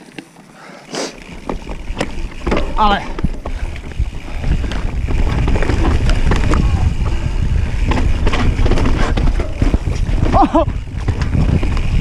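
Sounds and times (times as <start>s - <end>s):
bike chain and frame clattering: 0.0s - 12.0s
bike tyres rumbling on dirt: 0.0s - 12.0s
wind buffeting microphone: 1.3s - 12.0s.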